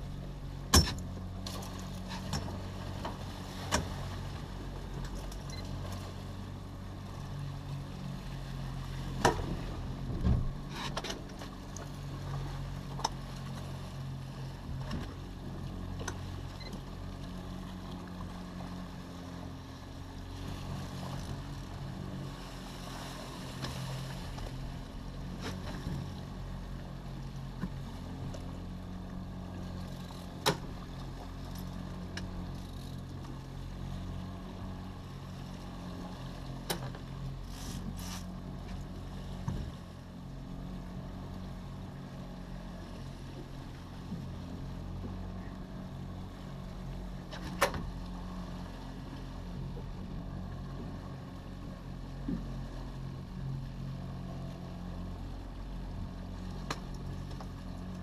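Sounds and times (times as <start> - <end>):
outboard motor running: 0.0 - 58.0
water noise: 0.0 - 58.0
wind: 0.0 - 58.0.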